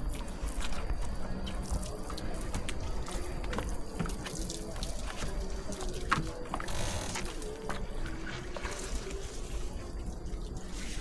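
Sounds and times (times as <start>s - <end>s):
water dripping and trickling: 0.0s - 11.0s.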